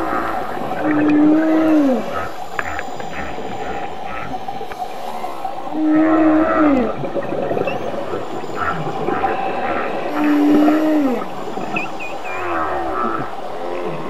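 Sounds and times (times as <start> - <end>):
steady background noise: 0.0 - 14.0
whale calls: 0.0 - 14.0.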